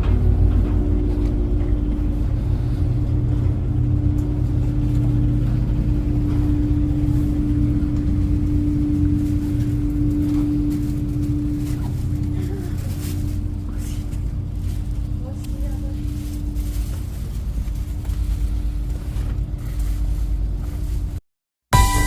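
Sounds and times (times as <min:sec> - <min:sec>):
ferry engines droning: 0:00.0 - 0:22.0.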